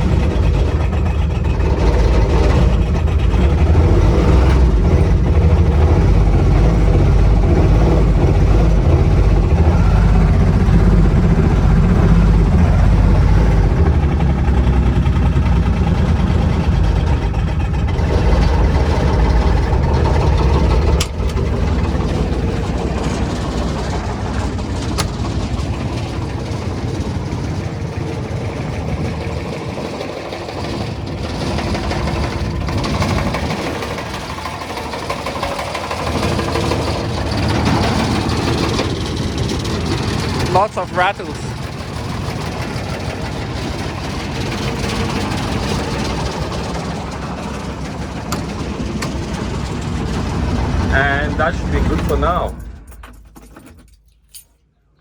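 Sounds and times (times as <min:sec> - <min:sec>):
diesel engine idling: 0:00.0 - 0:53.4.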